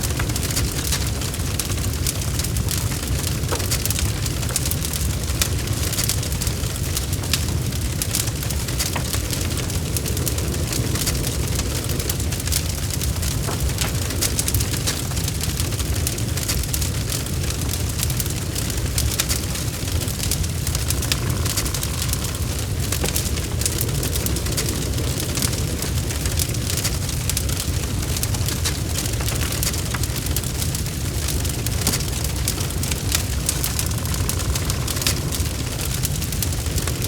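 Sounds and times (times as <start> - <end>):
fire flames rumbling: 0.0 - 37.0
log fire crackles and pops: 0.0 - 37.0.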